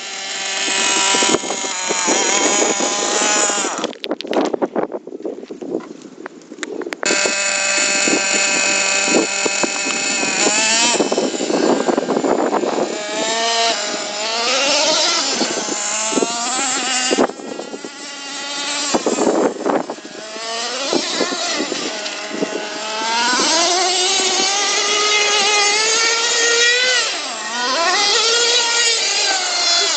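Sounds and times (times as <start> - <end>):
model truck engine revving: 0.0 - 4.0, 7.0 - 29.9.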